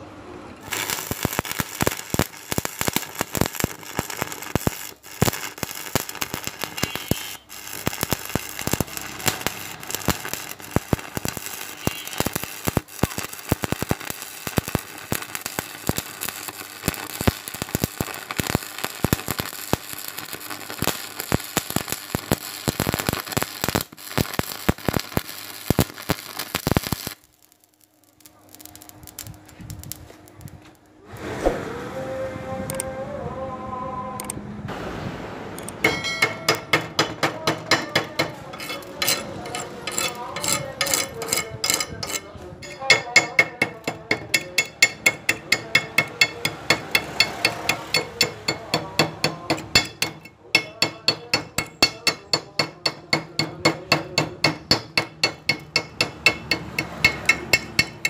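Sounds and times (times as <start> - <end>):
welding arc crackling and popping: 0.6 - 30.9, 36.2 - 58.0.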